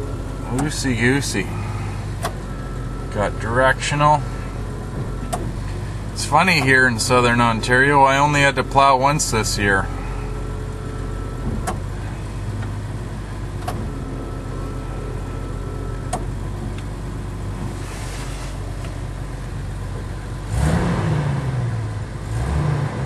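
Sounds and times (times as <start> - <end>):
engine idling: 0.0 - 20.8
loud rumble: 0.0 - 22.6.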